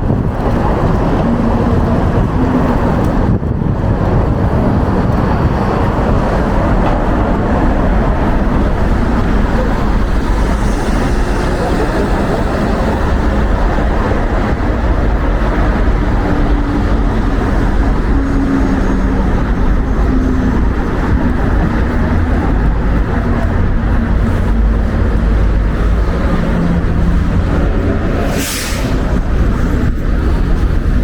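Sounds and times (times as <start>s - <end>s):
faint street traffic hum: 0.0s - 31.0s
wind buffeting microphone: 0.0s - 31.0s.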